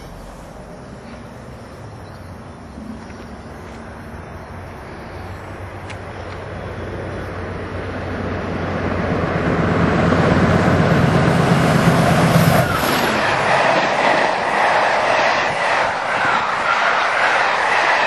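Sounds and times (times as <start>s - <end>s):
diesel locomotive engine: 0.0s - 18.0s.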